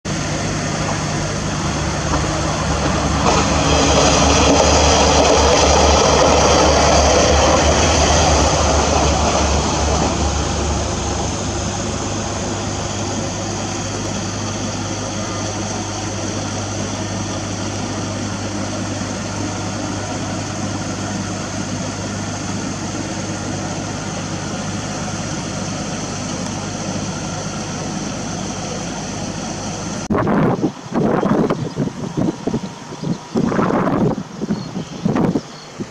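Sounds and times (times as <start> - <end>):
train passing: 0.1 - 35.9.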